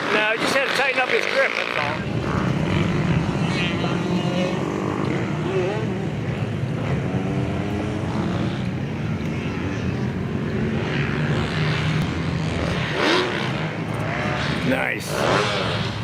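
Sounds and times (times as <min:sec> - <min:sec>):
dirt bike engine droning: 0:00.0 - 0:16.0.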